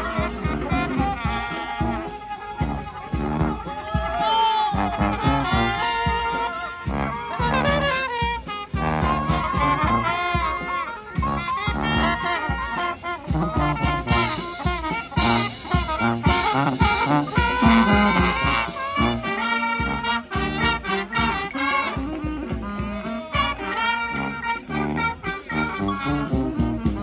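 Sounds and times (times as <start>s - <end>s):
brass band playing: 0.0s - 27.0s
drum kit beat: 0.0s - 27.0s.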